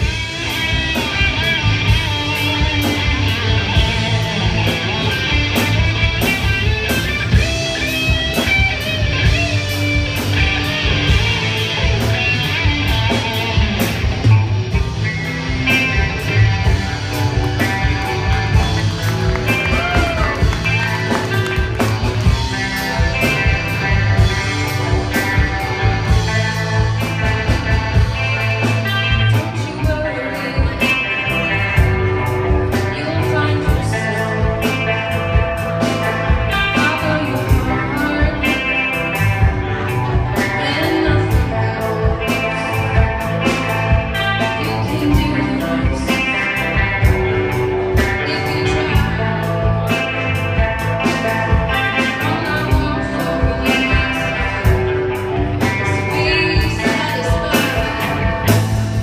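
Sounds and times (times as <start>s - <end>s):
bass guitar: 0.0s - 59.0s
drum-kit beat: 0.0s - 59.0s
electric guitars: 0.0s - 59.0s.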